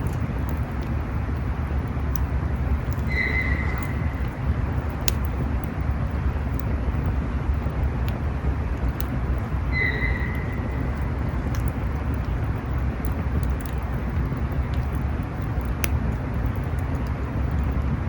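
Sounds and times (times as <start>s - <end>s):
campfire burning: 0.0s - 18.0s
fire crackles: 0.0s - 18.0s.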